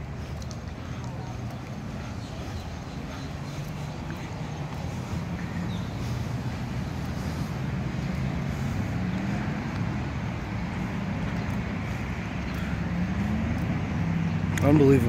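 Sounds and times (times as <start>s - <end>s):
low engine rumble: 0.0s - 15.0s
road traffic noise: 0.0s - 15.0s.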